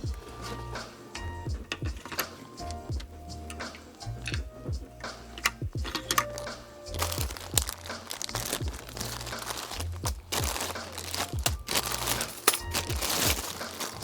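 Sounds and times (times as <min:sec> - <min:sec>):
background music with bass beat: 0:00.0 - 0:14.0
crinkling and sharp clicks: 0:00.0 - 0:14.0.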